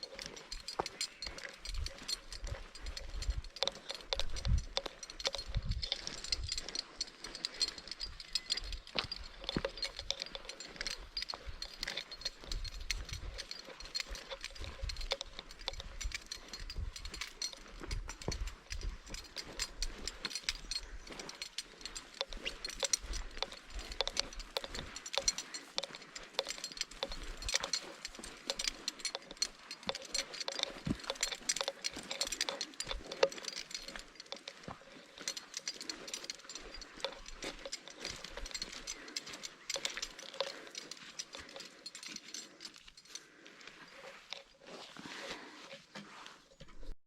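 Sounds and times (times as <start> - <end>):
small hard objects clicking and jangling: 0.0 - 46.9.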